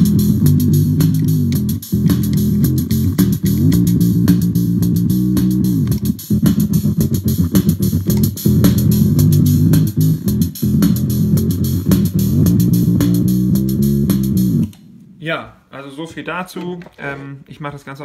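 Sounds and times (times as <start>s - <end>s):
fuzzy electric bass: 0.0s - 14.7s
looped drum beat: 0.0s - 14.7s.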